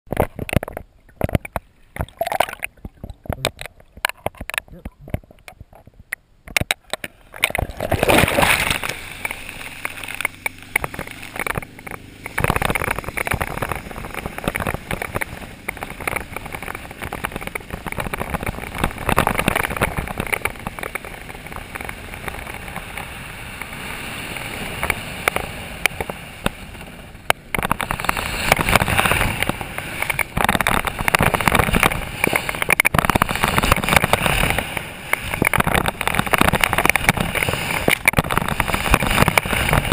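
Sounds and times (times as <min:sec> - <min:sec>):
water rushing and spraying: 0:07.0 - 0:39.9
wind buffeting microphone: 0:07.4 - 0:39.9.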